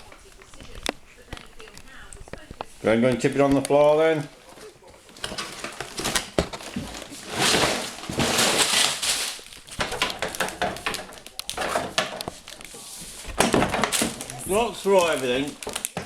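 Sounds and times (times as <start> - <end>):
plastic bags rustling: 0.0 - 16.0
plastic bricks tipped onto floor: 3.0 - 16.0.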